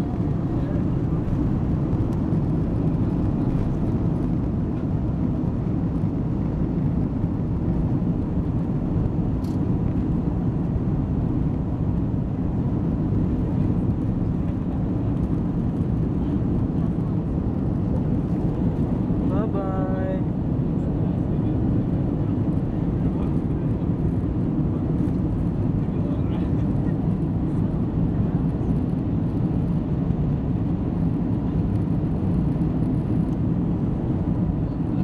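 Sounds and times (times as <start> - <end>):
jet engines deep rumble: 0.0 - 35.0.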